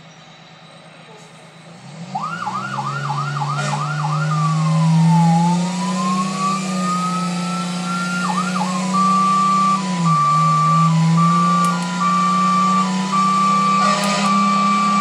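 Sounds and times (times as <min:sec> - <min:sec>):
siren yelp and hi-lo: 0:02.2 - 0:15.0.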